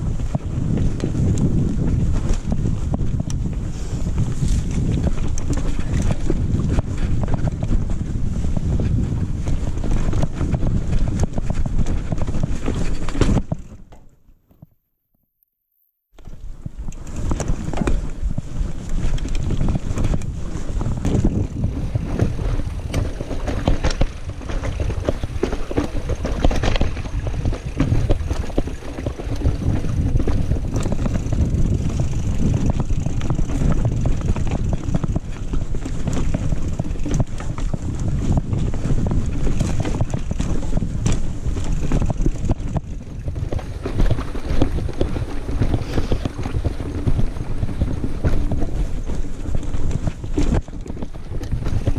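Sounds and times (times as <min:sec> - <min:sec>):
wind rumble on microphone: 0:00.0 - 0:14.0, 0:16.2 - 0:51.9
mountain bike rattling over rocks: 0:00.0 - 0:14.2, 0:16.2 - 0:51.9.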